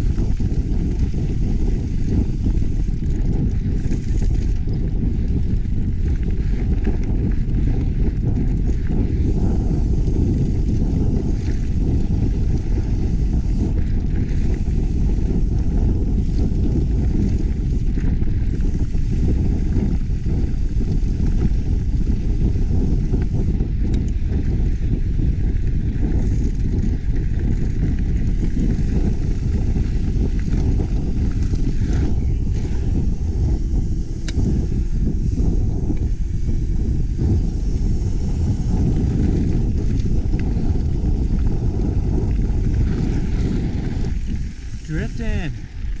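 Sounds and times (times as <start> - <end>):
bike tyre noise: 0.0 - 46.0
wind buffeting microphone: 0.0 - 46.0.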